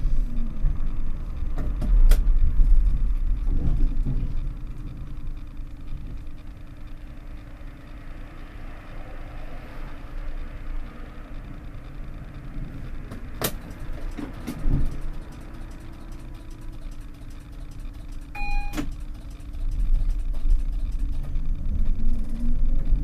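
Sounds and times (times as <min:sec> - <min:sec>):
tram equipment humming: 0:00.0 - 0:23.0.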